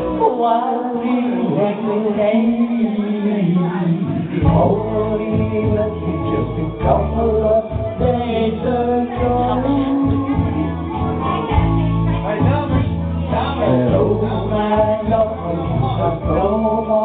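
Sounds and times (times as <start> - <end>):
backing track with bass line: 0.0 - 17.0.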